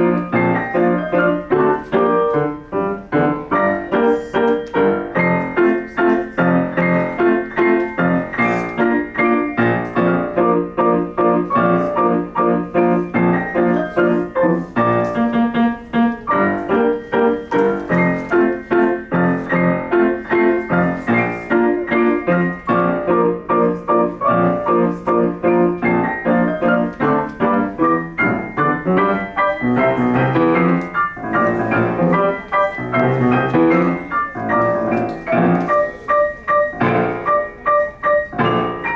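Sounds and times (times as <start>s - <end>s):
solo piano piece: 0.0s - 38.9s.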